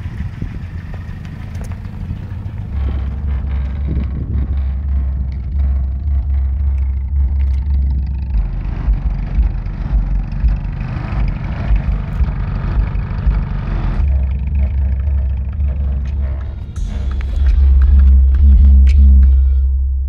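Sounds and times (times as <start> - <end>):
car subwoofer playing deep bass: 0.0 - 20.0.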